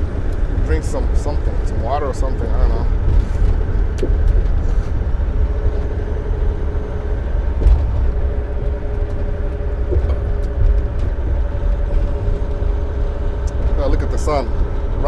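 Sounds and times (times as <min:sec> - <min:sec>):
mid-pitched hum: 0:00.0 - 0:15.0
truck engine and road rumble: 0:00.0 - 0:15.0.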